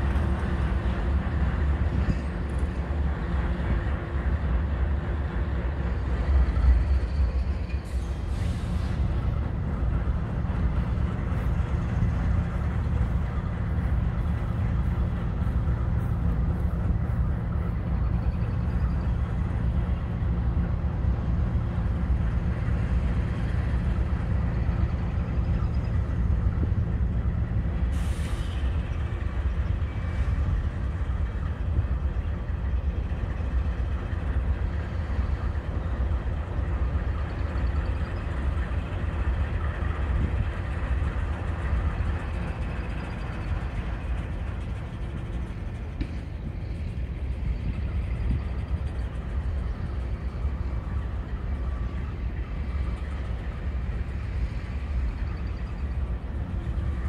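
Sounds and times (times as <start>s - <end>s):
distant diesel locomotive rumble: 0.0s - 57.0s.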